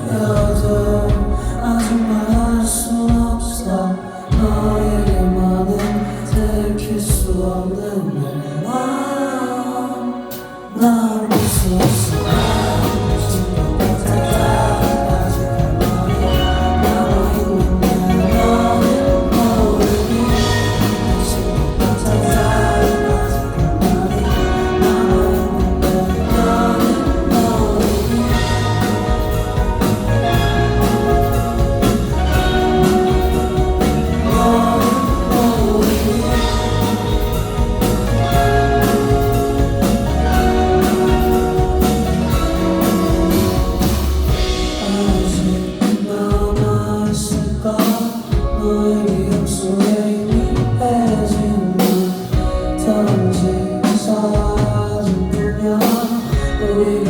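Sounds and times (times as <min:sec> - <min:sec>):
live rock band playing: 0:00.0 - 0:07.9, 0:10.3 - 0:57.0
voices singing along: 0:00.0 - 0:57.0.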